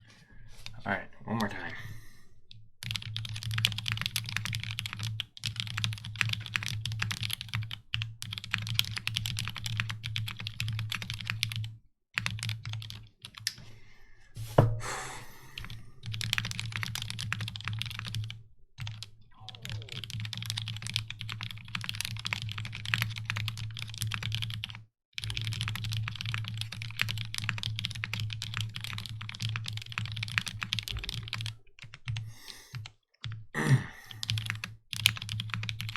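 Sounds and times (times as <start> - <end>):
typing on mechanical keyboard: 2.8 - 13.6, 15.6 - 33.4, 34.1 - 35.9.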